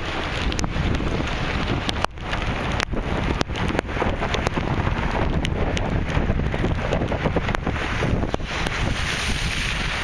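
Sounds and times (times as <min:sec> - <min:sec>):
steady rain: 0:00.0 - 0:10.0
wind buffeting microphone: 0:00.0 - 0:10.0.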